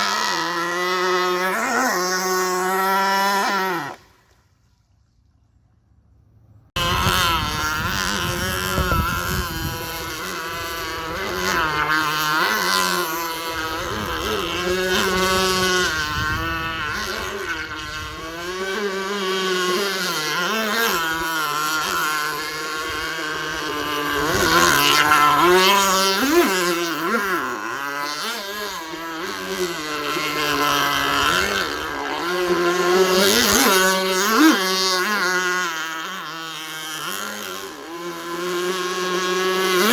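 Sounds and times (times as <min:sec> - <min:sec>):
model engine revving: 0:00.0 - 0:04.4, 0:06.7 - 0:39.9.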